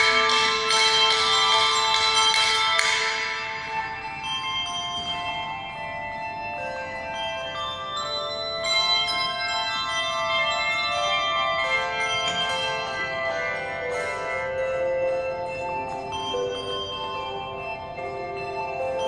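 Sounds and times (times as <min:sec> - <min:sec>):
handbell ensemble playing: 0:00.0 - 0:19.0.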